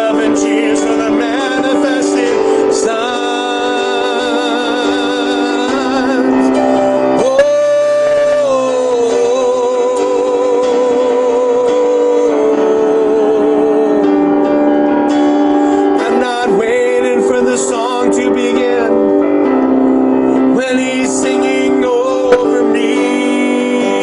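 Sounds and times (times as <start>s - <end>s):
man singing worship song: 0.0s - 15.0s, 15.6s - 19.6s, 20.2s - 24.0s
instrumental accompaniment: 0.0s - 24.0s.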